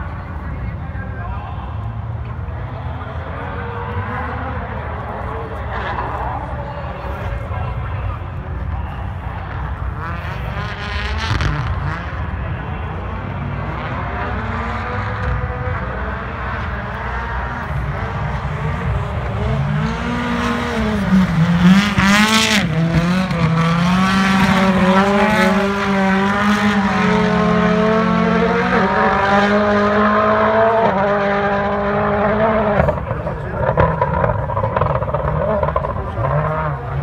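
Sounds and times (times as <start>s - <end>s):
rally car engine revving: 1.8s - 37.0s.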